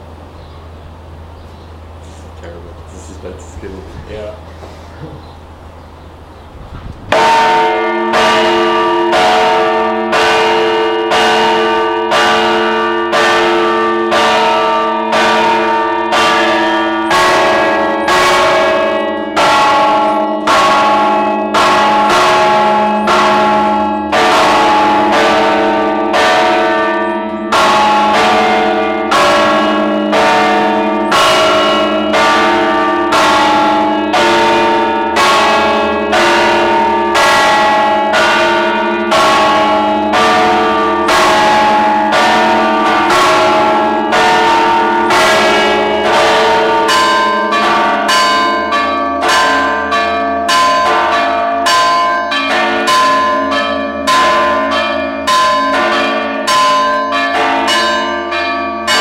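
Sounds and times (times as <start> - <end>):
church bells pealing: 1.0 - 4.6, 7.1 - 59.0.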